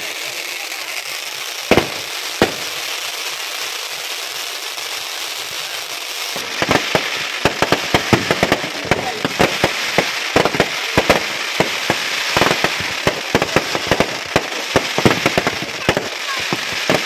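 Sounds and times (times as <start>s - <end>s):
fireworks fountains hissing: 0.0s - 17.0s.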